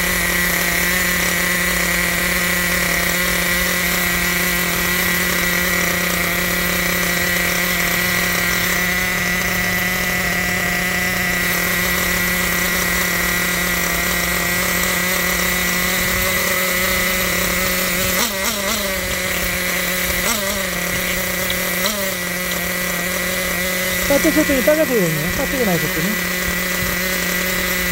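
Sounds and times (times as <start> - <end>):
small engine idling: 0.0 - 27.9
engine throttle blips: 5.1 - 27.9.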